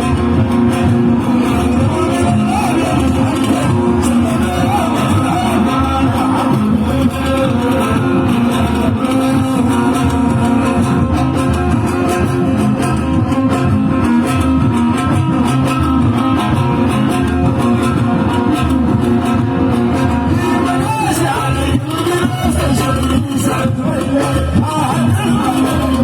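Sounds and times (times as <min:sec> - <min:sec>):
electric guitar: 0:00.0 - 0:26.0
live band playing instrumental: 0:00.0 - 0:26.0.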